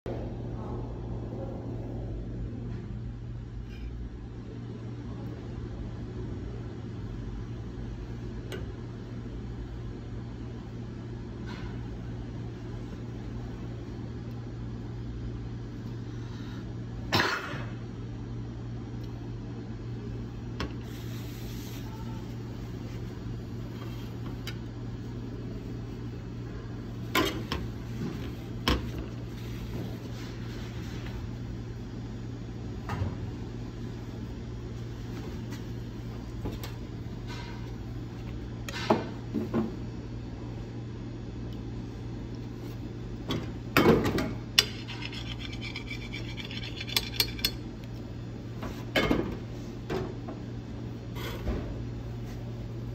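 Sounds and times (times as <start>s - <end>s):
low machine hum: 0.1s - 52.9s.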